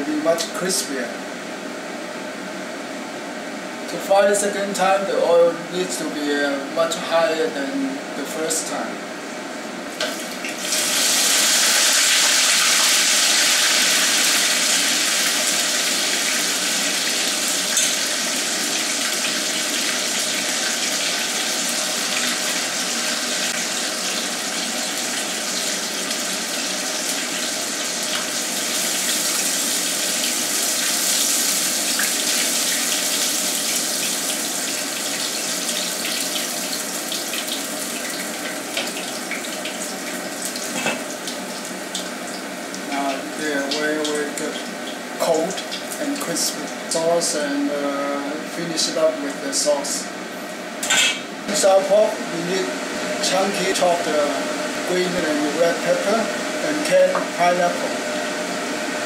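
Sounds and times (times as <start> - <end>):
deep-frying sizzle with crackles: 9.8 - 59.0.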